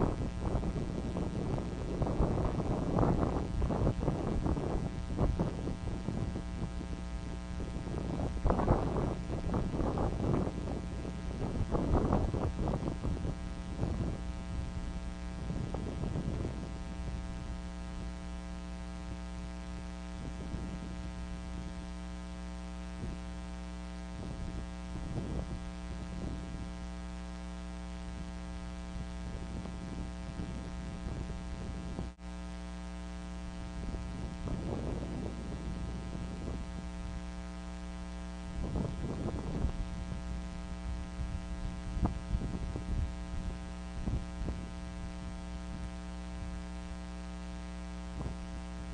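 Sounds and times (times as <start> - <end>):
buzzy electrical mains hum: 0.0 - 48.9.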